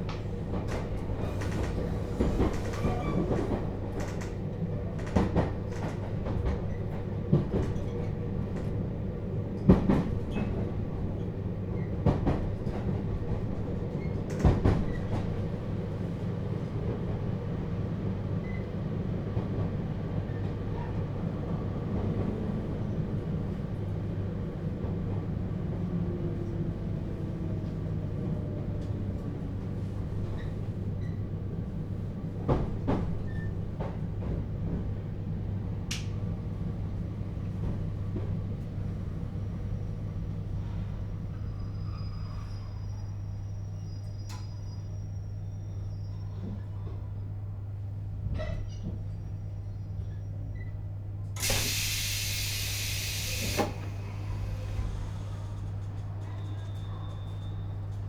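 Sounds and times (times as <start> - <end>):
train car low hum: 0.0 - 58.0.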